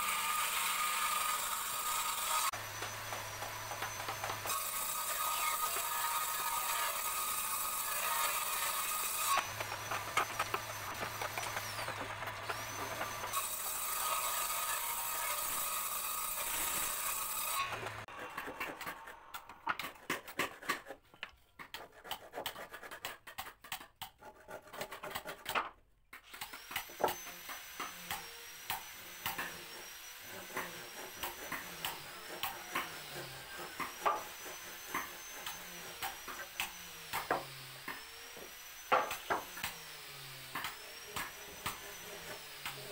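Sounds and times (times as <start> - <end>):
hand saw rasping through wood: 0.0 - 21.0, 21.6 - 25.6, 26.5 - 42.9
woodworking machine humming: 0.1 - 19.7, 26.5 - 42.9.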